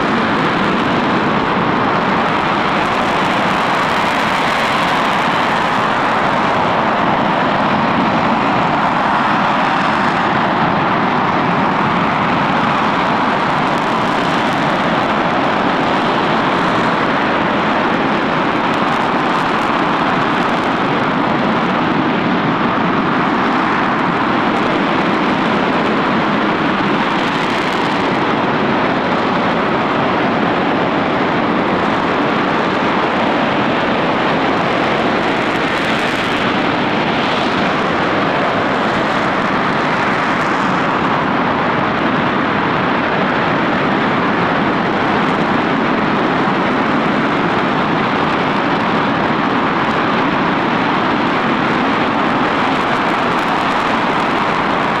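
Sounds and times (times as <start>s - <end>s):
rocket engine roaring: 0.0s - 55.0s.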